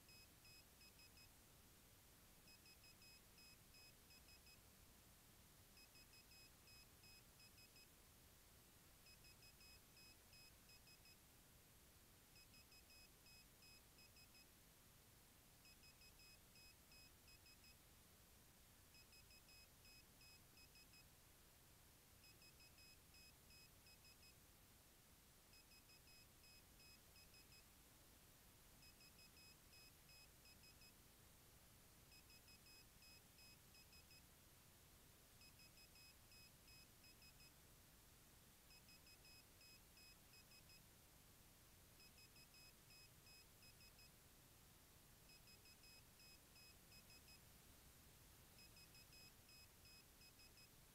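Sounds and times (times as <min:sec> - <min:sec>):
faint steady hiss: 0:00.0 - 0:50.9.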